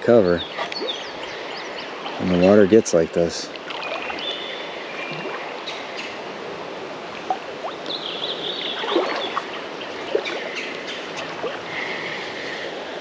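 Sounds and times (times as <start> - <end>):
fast-flowing creek: 0.4 - 13.0.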